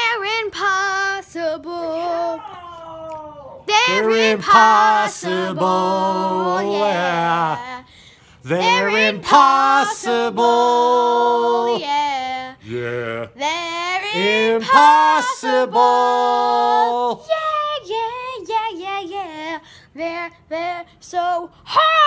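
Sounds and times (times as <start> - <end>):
girl and man singing unaccompanied: 0.0 - 2.4, 3.6 - 22.0.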